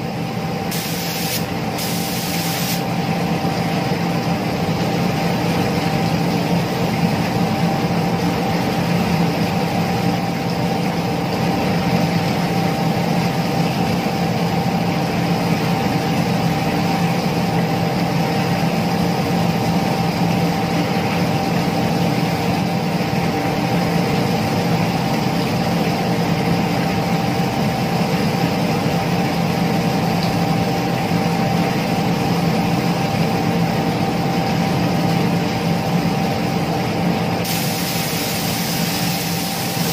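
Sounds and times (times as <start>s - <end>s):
extraction fan humming: 0.0s - 16.4s, 17.0s - 39.9s.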